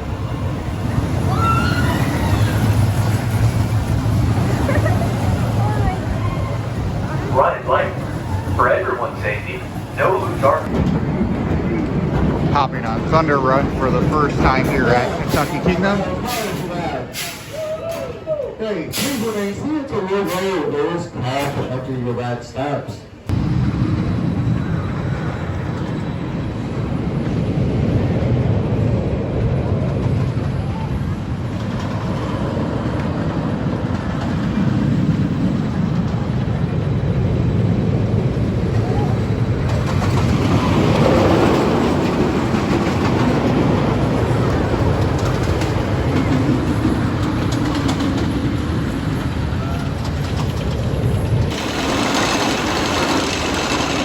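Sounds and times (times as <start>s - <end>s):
roller coaster rumbling and clattering: 0.0s - 54.0s.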